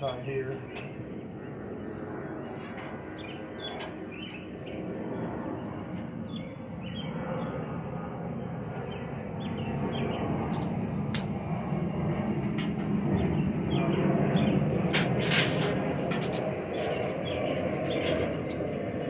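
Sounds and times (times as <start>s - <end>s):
birds chirping: 0.0s - 10.9s, 13.0s - 19.0s.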